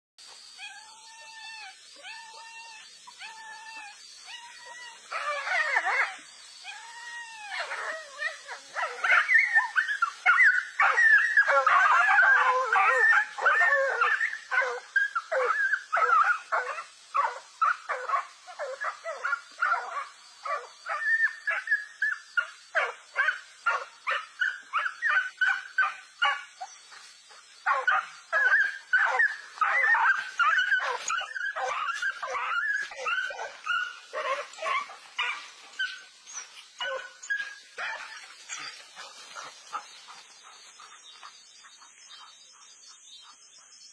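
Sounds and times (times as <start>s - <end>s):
dogs yelping and whining: 0.4s - 40.9s.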